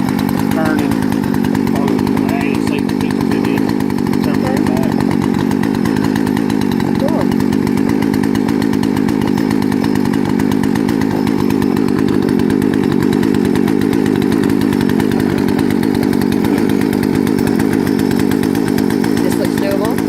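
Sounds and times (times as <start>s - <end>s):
chainsaw engine running: 0.0s - 20.0s.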